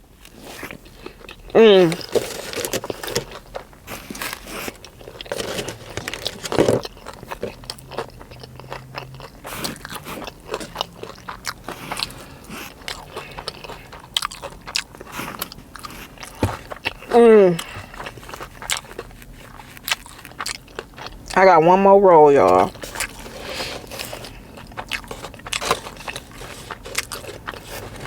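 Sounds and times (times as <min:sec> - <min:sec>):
chewing with crunches: 0:00.1 - 0:21.8, 0:22.4 - 0:28.0.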